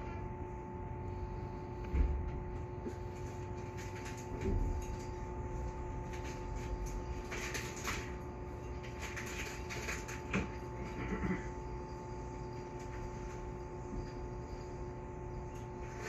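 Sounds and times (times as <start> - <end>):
train electrical hum: 0.0 - 16.0.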